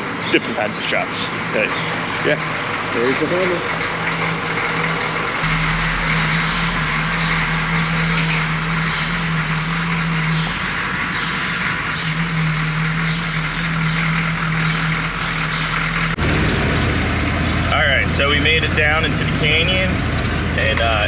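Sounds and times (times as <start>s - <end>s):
road and wind noise: 0.0s - 21.0s
vehicle engine low drone: 0.0s - 21.0s.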